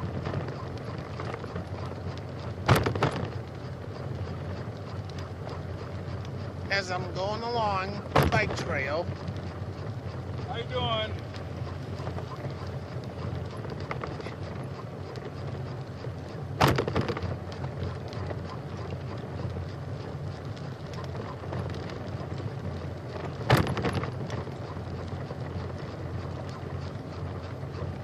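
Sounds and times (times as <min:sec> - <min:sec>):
bicycle rolling on trail: 0:00.0 - 0:28.0.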